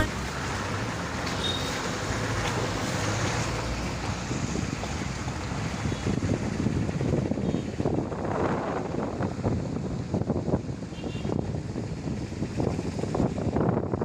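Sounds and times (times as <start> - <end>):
machinery engine hum: 0.0 - 14.0
wind buffeting microphone: 2.2 - 14.0.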